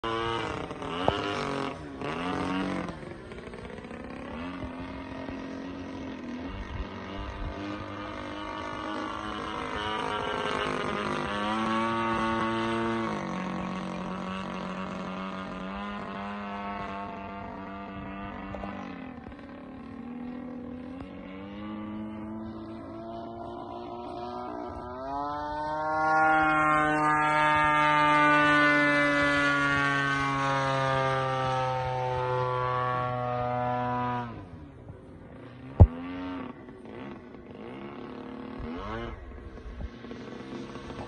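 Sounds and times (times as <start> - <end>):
model plane engine in flight: 0.0 - 41.0.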